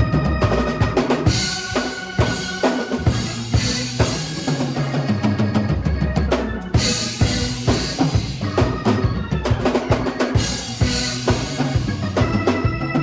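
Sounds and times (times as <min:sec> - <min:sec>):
drum kit playing: 0:00.0 - 0:13.0.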